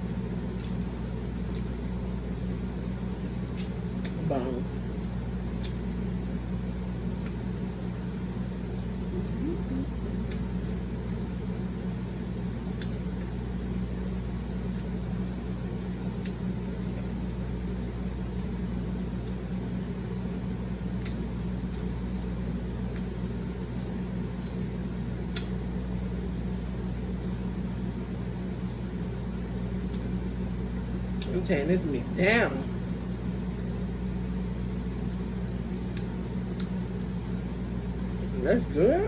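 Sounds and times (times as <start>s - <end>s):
chewing and tearing meat: 0.0s - 31.4s, 32.7s - 38.4s
steady low hum: 0.0s - 39.0s.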